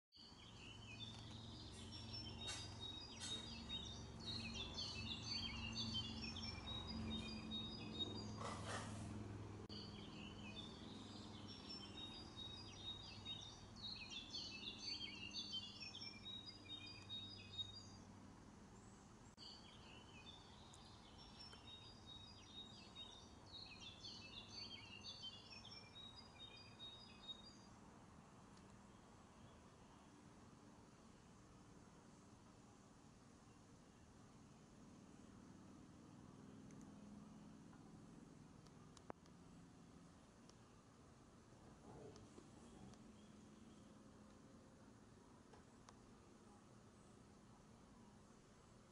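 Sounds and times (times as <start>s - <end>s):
songbird chirping: 0.1s - 48.9s
faint low hum: 0.2s - 48.9s.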